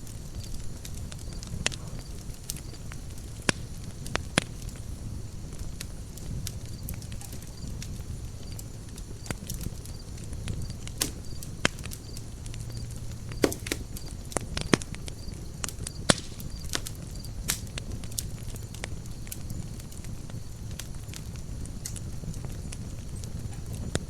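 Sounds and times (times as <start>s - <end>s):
low rumble of flame: 0.0s - 24.0s
wood crackling and popping: 0.0s - 24.0s.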